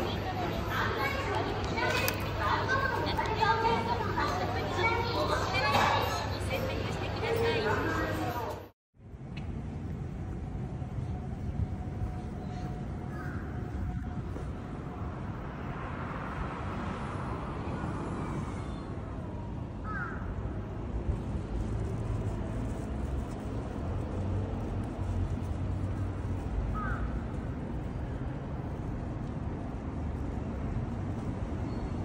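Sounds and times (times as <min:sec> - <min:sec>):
low rumble of city traffic: 0:00.0 - 0:32.0.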